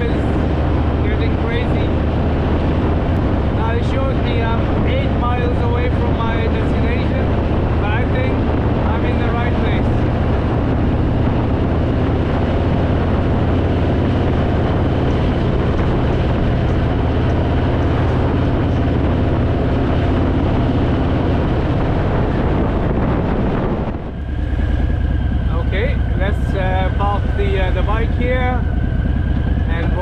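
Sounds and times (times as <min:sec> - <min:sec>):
motorcycle engine running: 0:00.0 - 0:30.0
wind rushing: 0:00.0 - 0:30.0.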